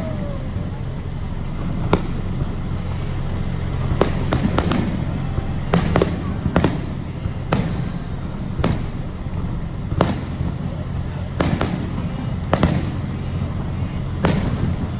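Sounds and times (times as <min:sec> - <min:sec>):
steady low rumble: 0:00.0 - 0:14.9
raindrops tapping on car: 0:00.6 - 0:14.9.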